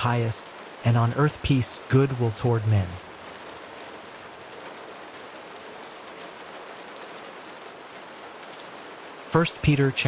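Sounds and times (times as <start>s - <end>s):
soft rain falling: 0.0s - 10.0s.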